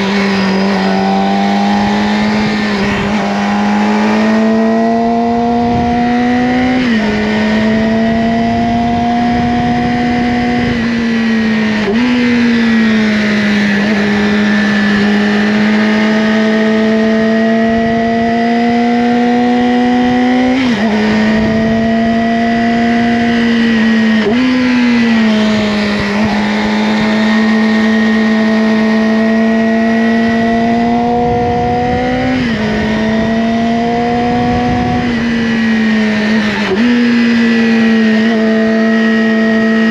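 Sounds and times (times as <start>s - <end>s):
sport motorcycle engine revving: 0.0s - 39.9s.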